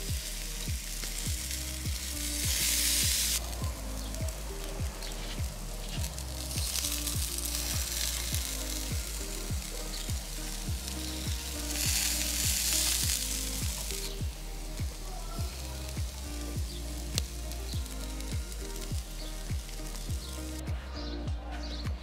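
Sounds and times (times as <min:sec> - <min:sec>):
food sizzling in a frying pan: 0:00.0 - 0:20.7
background music with a beat: 0:00.0 - 0:22.0.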